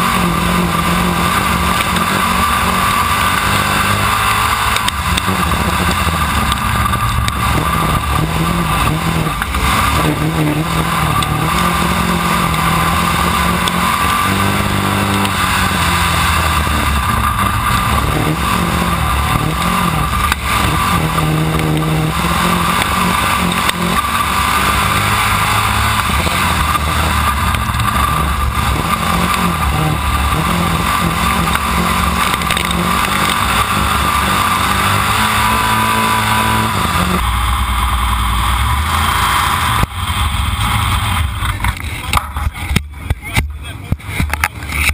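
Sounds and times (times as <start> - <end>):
race car engine running hard: 0.0 - 44.9.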